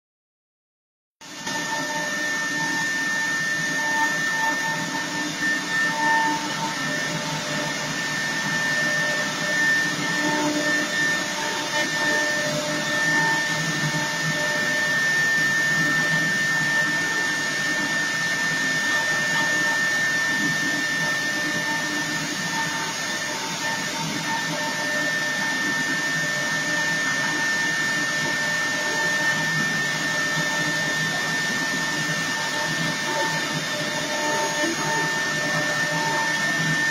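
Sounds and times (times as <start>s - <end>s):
router bit cutting wood: 1.2s - 36.9s
spindle high-pitched whine: 1.3s - 36.9s.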